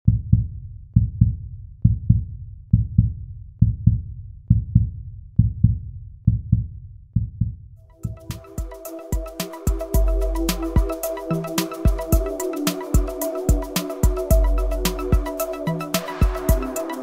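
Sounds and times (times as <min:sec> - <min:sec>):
heartbeat thumps: 0:00.1 - 0:11.0, 0:11.9 - 0:12.4, 0:13.0 - 0:15.4.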